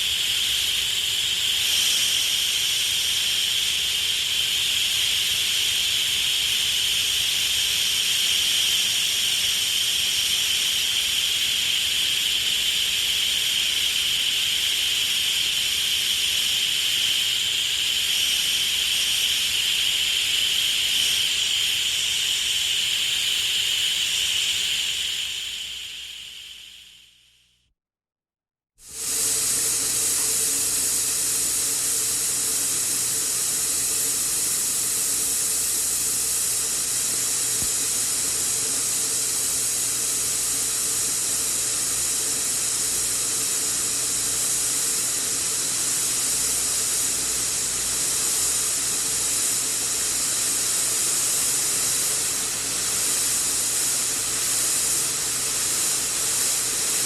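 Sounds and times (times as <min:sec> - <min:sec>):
pressurised air hissing: 0:00.0 - 0:27.2, 0:28.8 - 0:57.0.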